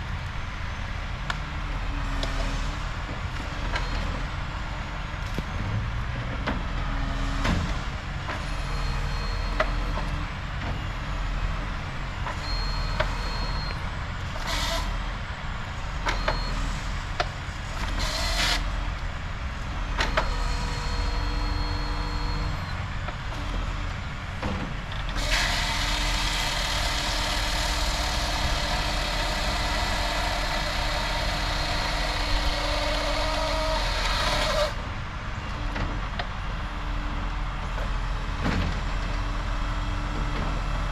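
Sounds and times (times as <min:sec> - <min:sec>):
diesel crane engine running: 0:00.0 - 0:40.9.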